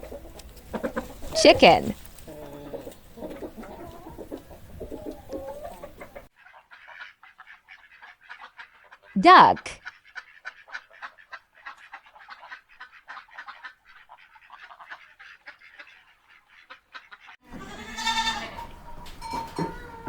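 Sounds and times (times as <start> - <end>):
ducks quacking: 0.0 - 19.1.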